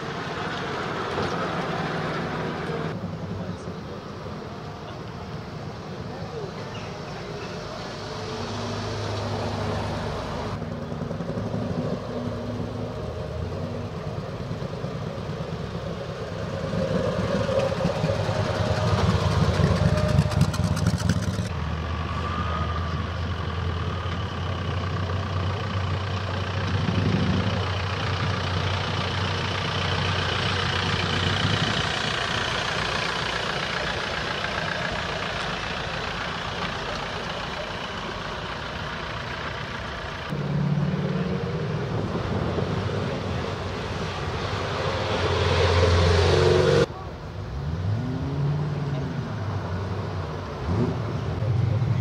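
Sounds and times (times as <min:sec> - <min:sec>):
vehicle engines passing: 0:00.0 - 0:52.0.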